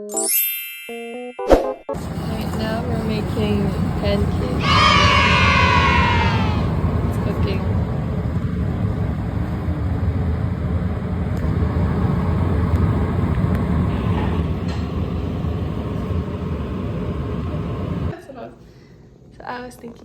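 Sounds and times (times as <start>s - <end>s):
low rumbling noise: 2.0s - 18.1s.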